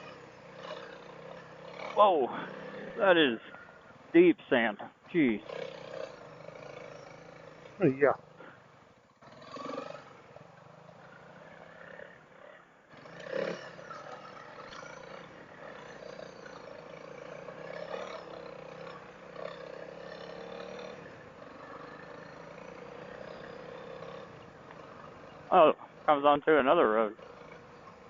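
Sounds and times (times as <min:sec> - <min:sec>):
muffled motorcycle engine running: 0:00.0 - 0:04.2, 0:04.8 - 0:28.0.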